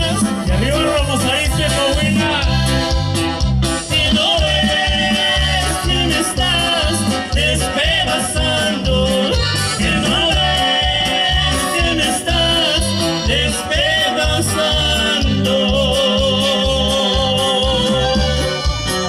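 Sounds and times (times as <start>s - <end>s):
accordion: 0.0s - 19.0s
guitars playing melody: 0.0s - 19.0s
pulsing bass line: 0.0s - 19.0s.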